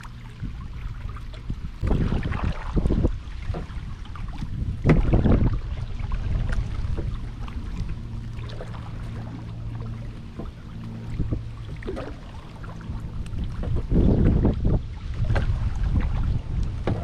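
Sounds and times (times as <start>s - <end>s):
water splashing and dripping: 0.0s - 17.0s
wind rumble on microphone: 0.0s - 17.0s.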